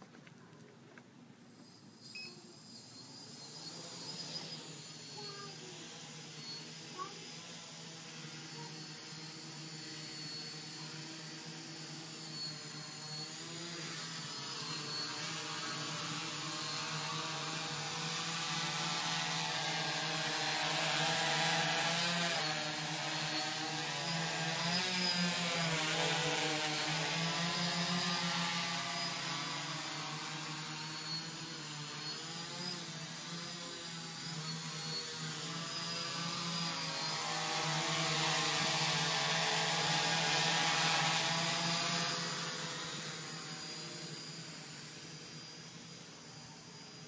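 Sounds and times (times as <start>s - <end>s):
drone propellers humming: 1.4s - 47.0s.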